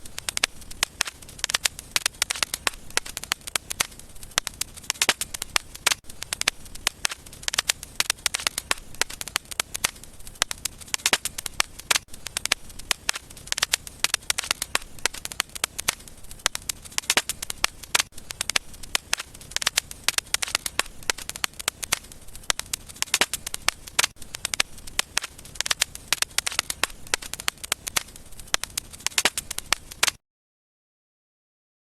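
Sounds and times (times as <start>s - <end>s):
soft background hiss: 0.0s - 30.0s
wood fire crackling and popping: 0.0s - 30.2s.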